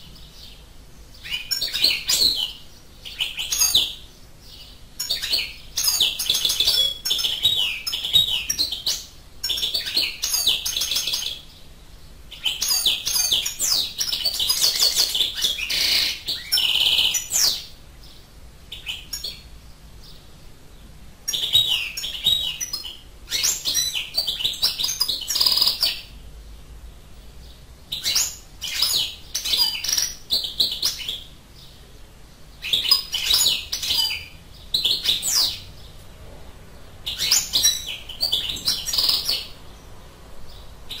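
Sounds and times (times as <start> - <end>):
bird singing high twitters: 0.0 - 20.5, 21.3 - 26.2, 27.2 - 36.0, 37.0 - 41.0.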